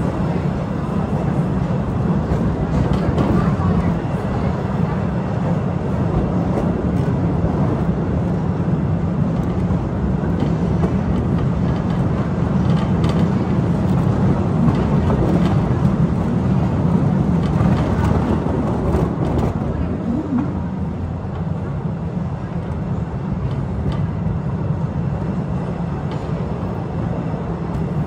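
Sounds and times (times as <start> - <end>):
train rumbling along track: 0.0 - 28.0.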